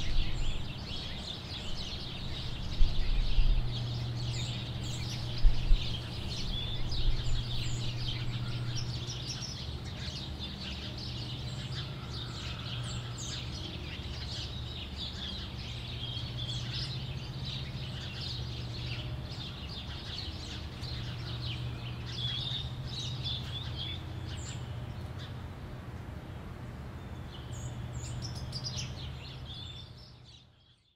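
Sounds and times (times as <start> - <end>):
steady low hum: 0.0 - 30.8
sparrows chirping: 0.0 - 30.9.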